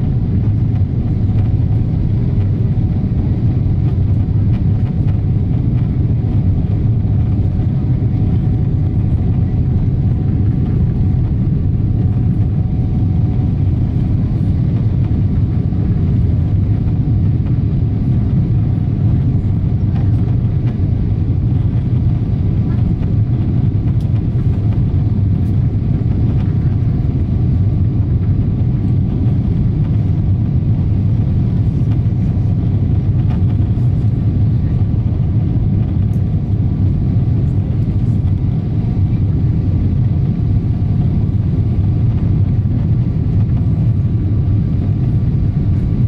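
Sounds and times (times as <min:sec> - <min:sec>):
airplane cabin roar: 0:00.0 - 0:46.0.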